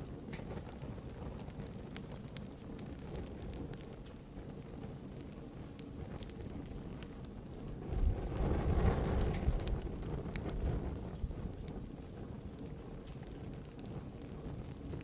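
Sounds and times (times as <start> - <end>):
wood fire crackling and popping: 0.0 - 15.0
low fire rushing: 0.1 - 15.0.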